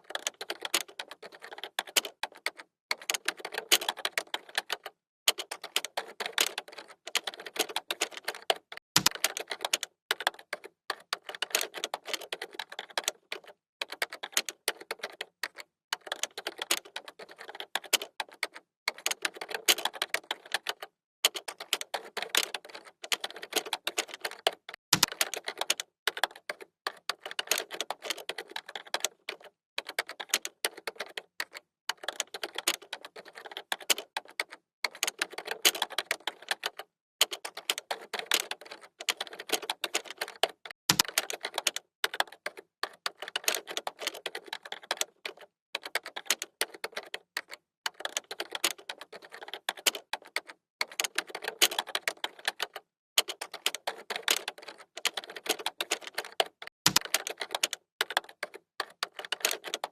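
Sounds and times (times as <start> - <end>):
typing on computer keyboard: 0.0 - 59.9.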